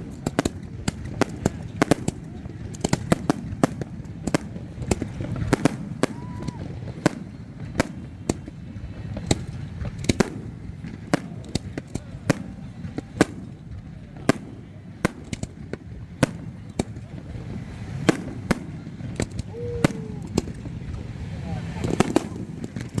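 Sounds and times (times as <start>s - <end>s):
fireworks exploding: 0.0s - 23.0s.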